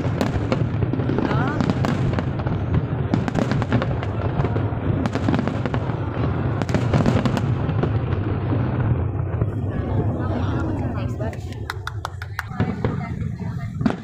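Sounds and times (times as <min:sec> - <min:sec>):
fireworks bursting: 0:00.0 - 0:14.0
fireworks crackling: 0:00.0 - 0:14.0.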